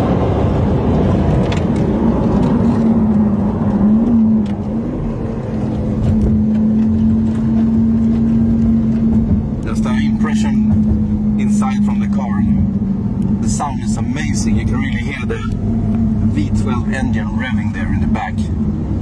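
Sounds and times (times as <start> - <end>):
car engine from inside cabin: 0.0 - 19.0
wind and tyre noise: 0.0 - 19.0.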